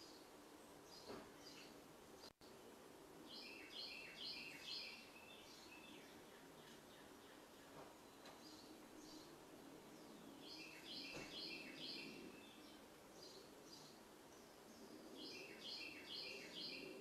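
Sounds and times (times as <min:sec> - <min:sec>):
bird chirping: 0:00.0 - 0:02.3, 0:03.3 - 0:17.0
faint steady hiss: 0:00.0 - 0:17.0.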